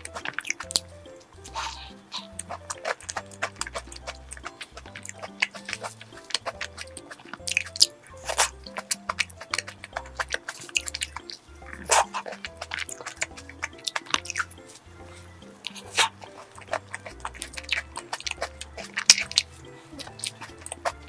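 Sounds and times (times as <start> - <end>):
background music with bass line: 0.0 - 21.0
biting and chewing tart: 0.0 - 21.0.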